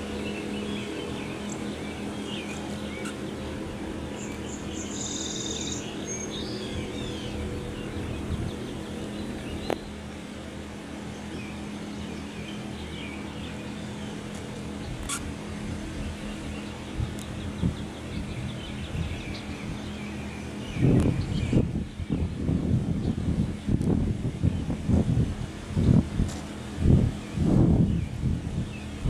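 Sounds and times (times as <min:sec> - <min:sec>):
birds chirping: 0:00.0 - 0:24.9, 0:25.7 - 0:29.0
steady low hum: 0:00.0 - 0:29.0.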